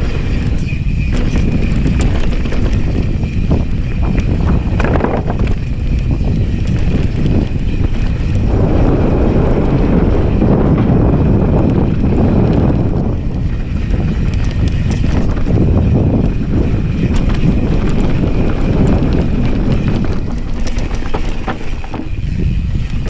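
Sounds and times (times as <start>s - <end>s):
bike rattling over bumps: 0.0s - 23.0s
tyres rolling over dirt: 0.0s - 23.0s
wind buffeting microphone: 0.0s - 23.0s.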